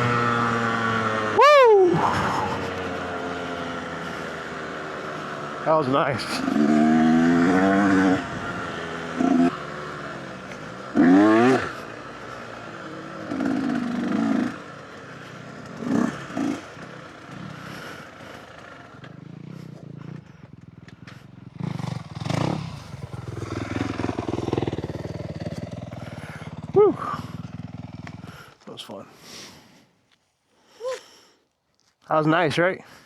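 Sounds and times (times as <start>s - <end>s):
dirt bike engine revving: 0.0s - 28.5s.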